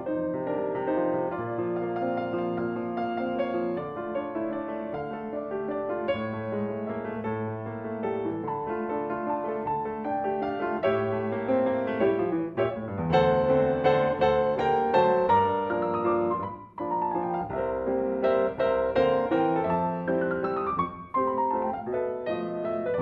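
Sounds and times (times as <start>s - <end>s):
grand piano playing: 0.0s - 23.0s.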